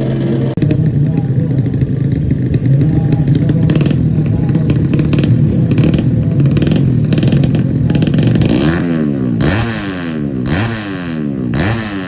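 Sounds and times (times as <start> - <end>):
exhaust crackle: 0.0 - 10.6
motorcycle engines revving: 0.0 - 12.0.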